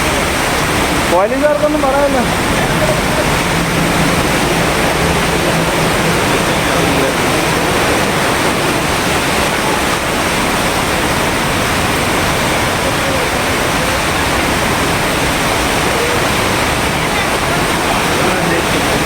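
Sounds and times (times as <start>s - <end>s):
rushing floodwater and rain: 0.0s - 19.0s.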